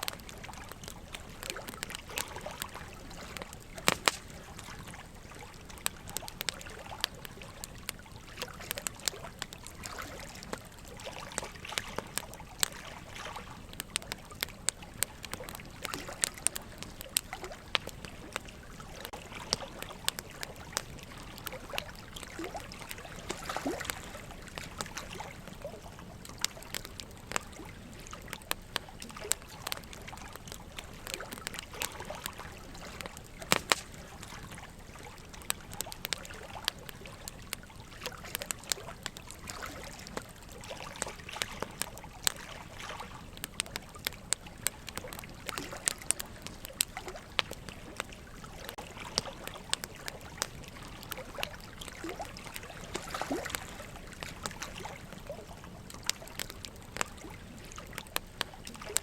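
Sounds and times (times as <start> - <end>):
burning logs crackling: 0.0 - 59.0
running water trickling: 0.0 - 59.0.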